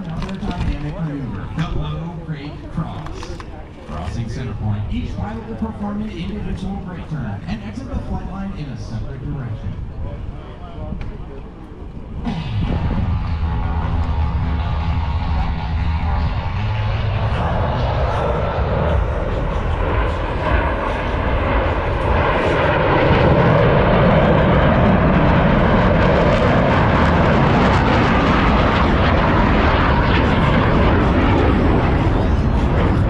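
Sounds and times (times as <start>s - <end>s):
jet engines roaring in flight: 0.0s - 33.0s.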